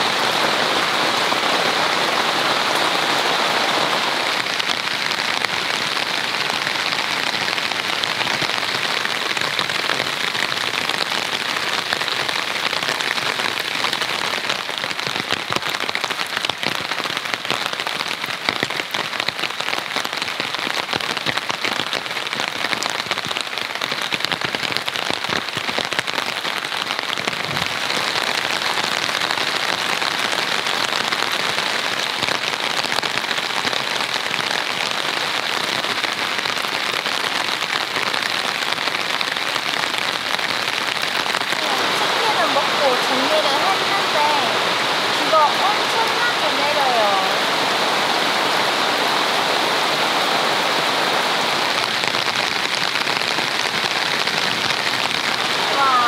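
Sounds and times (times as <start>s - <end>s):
heavy rain on tent fabric: 0.0s - 56.0s.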